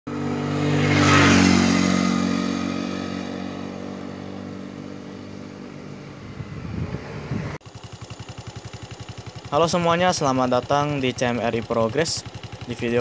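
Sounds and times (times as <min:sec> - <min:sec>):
engine approaching: 0:00.1 - 0:13.0
motorcycle engine passing by: 0:00.1 - 0:13.0.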